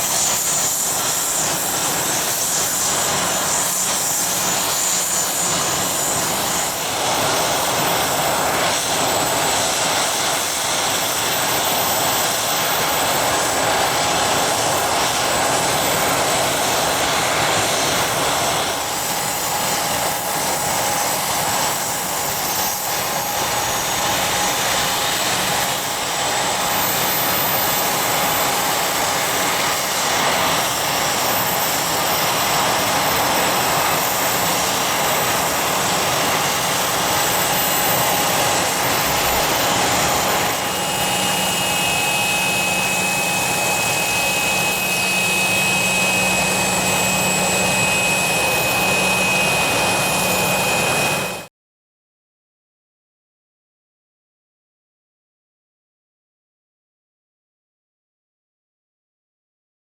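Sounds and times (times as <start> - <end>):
jet engines rushing and whining: 0.0 - 51.5.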